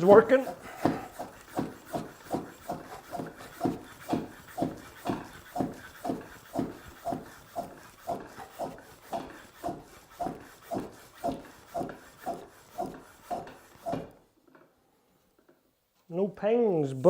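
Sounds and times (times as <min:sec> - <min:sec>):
bicycle pump strokes: 0:00.0 - 0:14.2.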